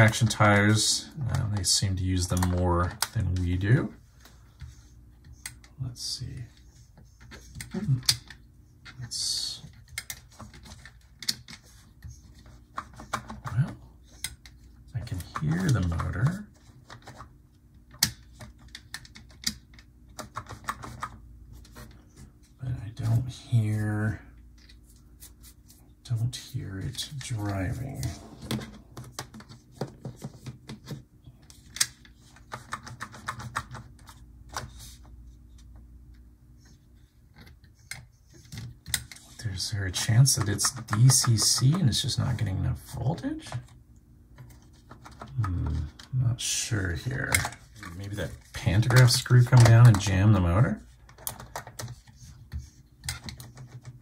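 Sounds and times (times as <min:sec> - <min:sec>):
faint motor hum: 0:00.0 - 0:54.0.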